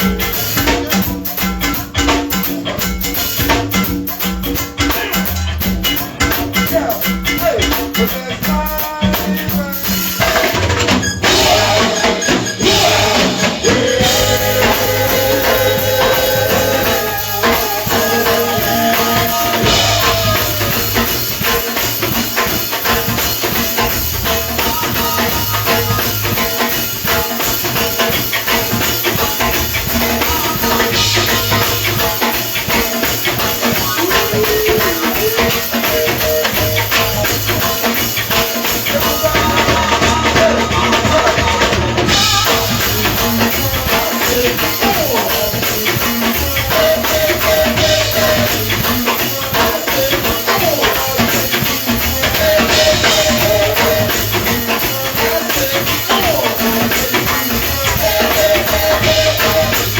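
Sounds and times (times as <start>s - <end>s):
drum kit beat: 0.0s - 59.9s
live band playing: 0.0s - 59.9s.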